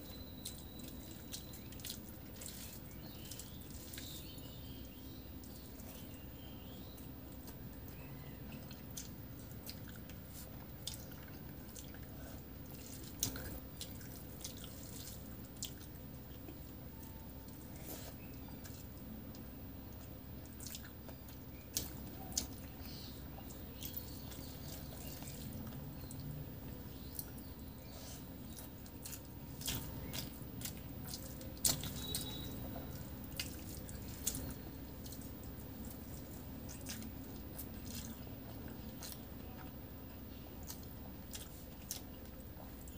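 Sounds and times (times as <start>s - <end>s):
low background hum: 0.0s - 42.9s
mouth clicks and chewing: 0.0s - 42.9s.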